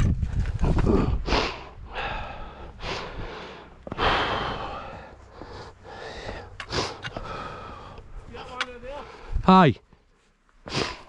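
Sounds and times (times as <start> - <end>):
person breathing heavily: 0.6 - 9.4, 10.6 - 11.0.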